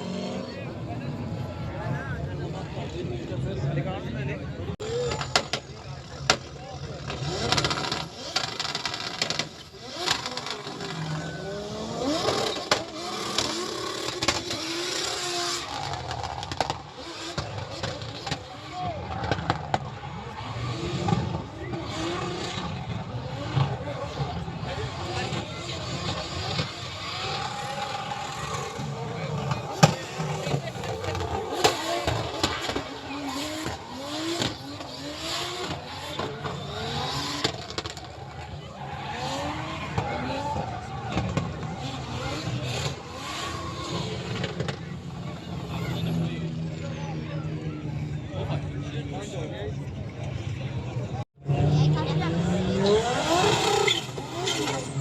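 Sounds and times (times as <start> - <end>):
vehicle engines revving: 0.0 - 55.0.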